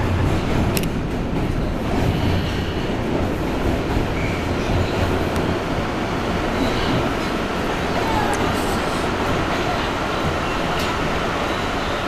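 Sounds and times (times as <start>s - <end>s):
subway car rumbling through tunnel: 0.0s - 12.0s.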